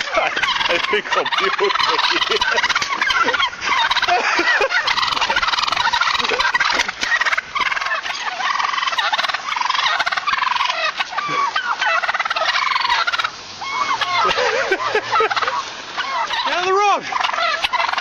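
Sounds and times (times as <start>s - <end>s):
turkeys gobbling: 0.0s - 18.0s.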